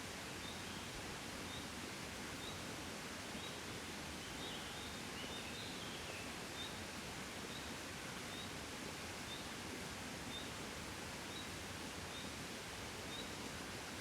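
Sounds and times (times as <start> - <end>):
gentle wind: 0.0 - 14.0.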